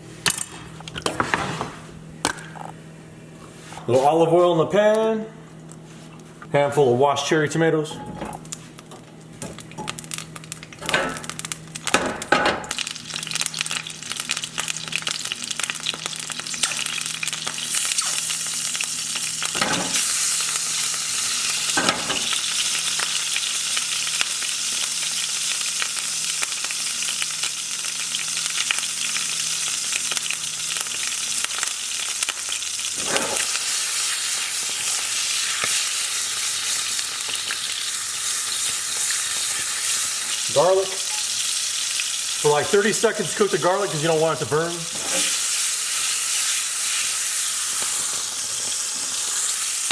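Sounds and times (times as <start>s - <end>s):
tomatoes sizzling in oil: 8.4s - 49.9s.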